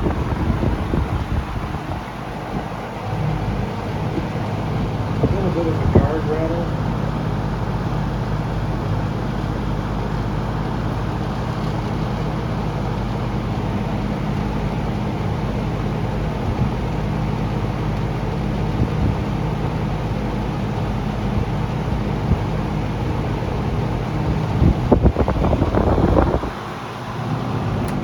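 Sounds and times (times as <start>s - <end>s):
box fan air rush: 0.0s - 28.0s
low motor hum: 0.0s - 28.0s.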